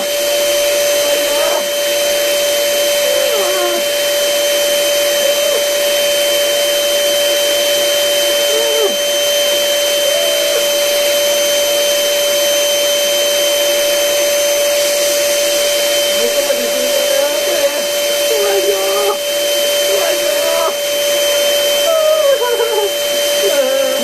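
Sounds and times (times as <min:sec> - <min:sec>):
electric air blower whining: 0:00.0 - 0:24.0.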